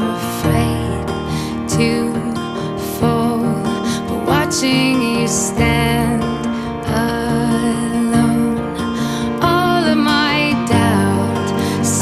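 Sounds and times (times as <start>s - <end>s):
gentle plucked guitar music: 0.0s - 12.0s.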